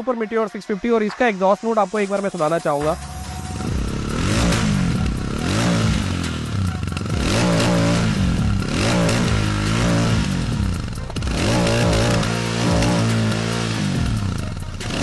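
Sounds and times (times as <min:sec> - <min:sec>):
motorcycle exhaust revving: 0:02.8 - 0:15.0.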